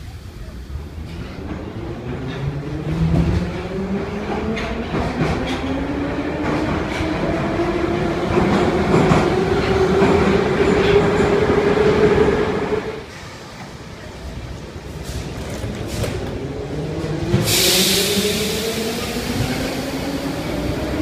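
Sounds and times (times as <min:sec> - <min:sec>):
rumble of train wheels: 0:00.0 - 0:21.0.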